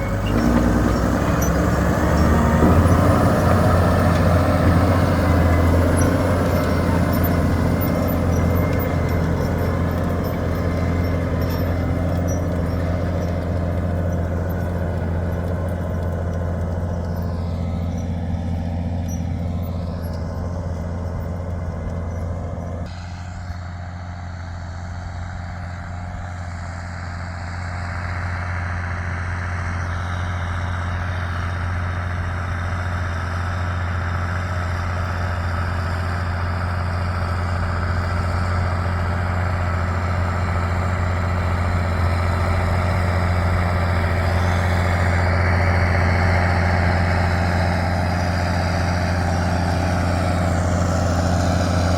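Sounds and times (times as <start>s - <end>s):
tractor diesel engine droning: 0.0s - 51.9s.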